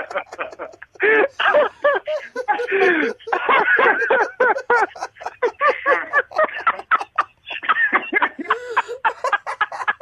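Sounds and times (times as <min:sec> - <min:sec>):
man giggling into a microphone: 0:00.0 - 0:10.0.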